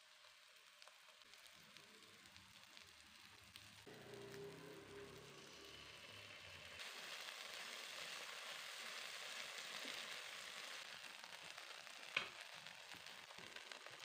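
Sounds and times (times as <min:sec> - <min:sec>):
sausages sizzling in a pan: 0:00.0 - 0:14.0.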